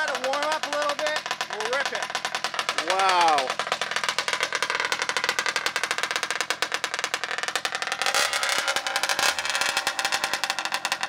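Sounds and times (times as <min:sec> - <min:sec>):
two-stroke engine running loudly: 0:00.0 - 0:11.0.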